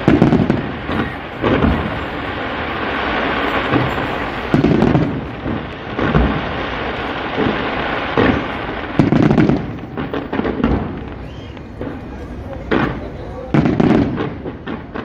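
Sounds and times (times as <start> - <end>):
firework crackles: 0.0 - 15.0
fireworks barrage: 0.0 - 15.0
heavy firework booms: 0.0 - 15.0.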